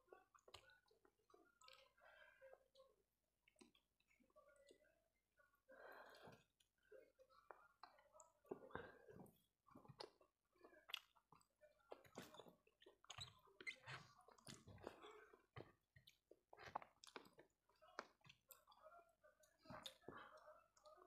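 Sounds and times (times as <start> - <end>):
chewing and wet mouth smacks: 0.1 - 4.8, 6.1 - 21.0.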